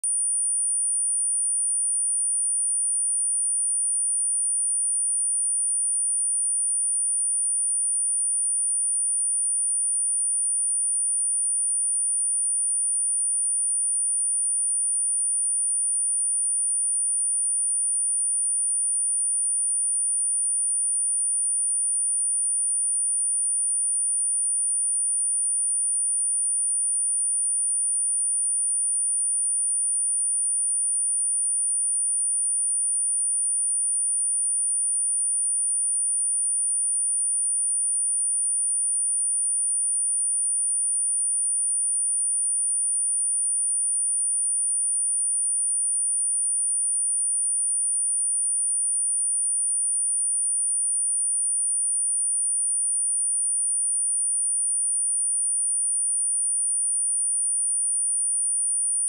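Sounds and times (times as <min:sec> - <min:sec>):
high-pitched sine-wave test tone: 0:00.0 - 0:59.0.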